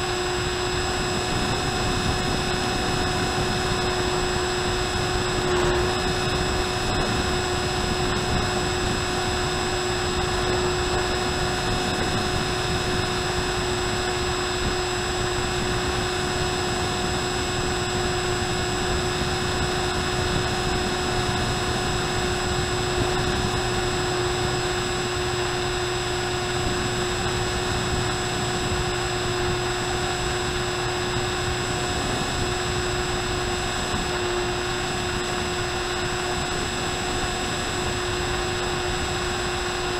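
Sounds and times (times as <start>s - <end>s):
electric propeller motor whine: 0.0s - 39.9s
wind rushing over microphone: 0.0s - 39.9s.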